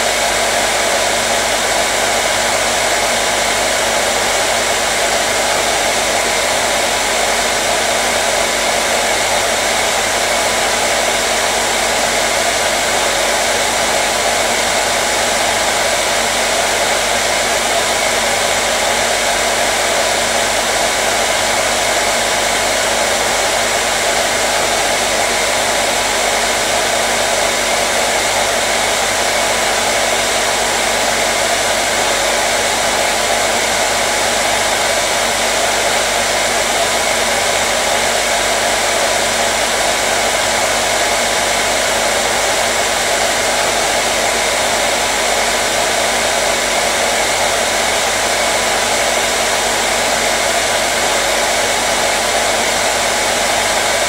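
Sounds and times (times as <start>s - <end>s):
hair dryer blowing air: 0.0s - 54.0s.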